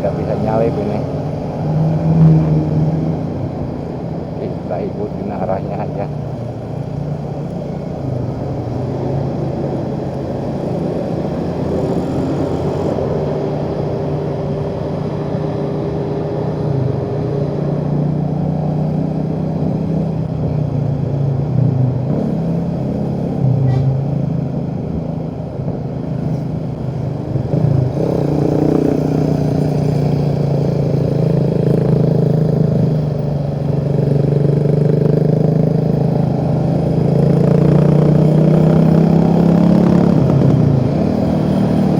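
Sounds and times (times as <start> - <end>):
motorcycle engine revving: 0.0 - 41.9
wind and road noise: 0.0 - 41.9.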